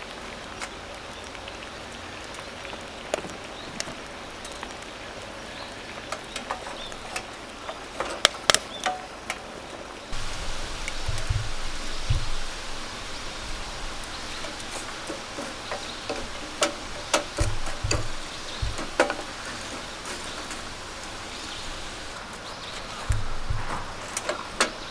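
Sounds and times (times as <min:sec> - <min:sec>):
fire hissing and crackling: 0:00.0 - 0:24.9.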